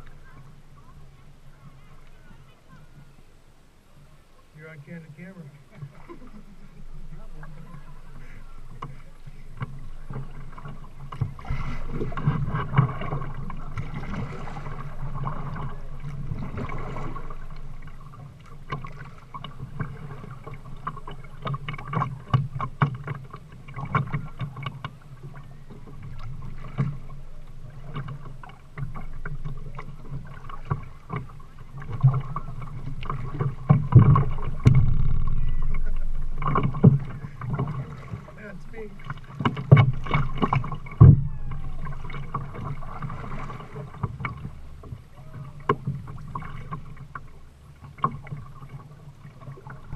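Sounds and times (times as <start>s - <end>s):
paddle splashing: 0.0s - 49.9s
water lapping along hull: 0.0s - 49.9s.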